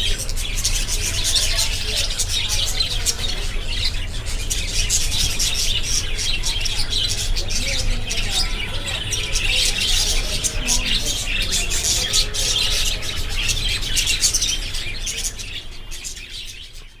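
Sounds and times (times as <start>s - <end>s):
budgerigars chirping: 0.0s - 17.0s.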